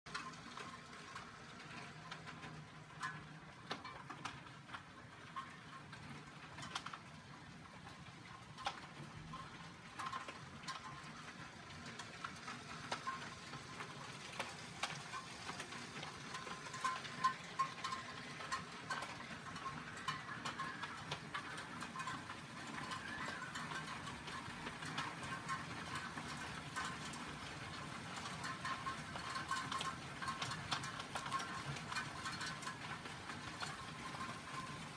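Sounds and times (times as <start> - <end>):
hailstones pattering: 0.1 - 34.9
hailstones ticking on glass: 0.1 - 34.9.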